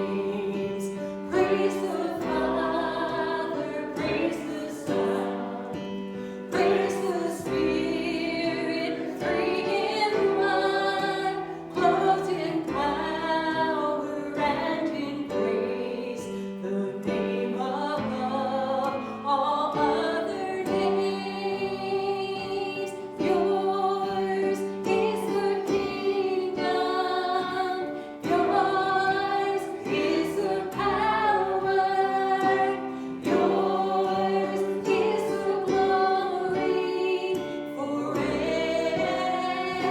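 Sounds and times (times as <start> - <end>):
group singing a worship song: 0.0 - 39.9.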